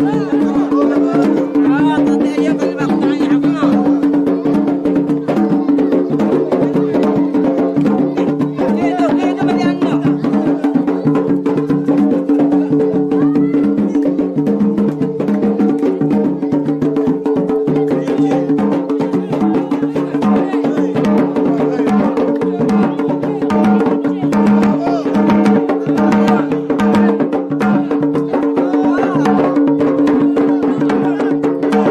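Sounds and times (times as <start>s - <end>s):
hand drums beaten fast: 0.0s - 31.9s.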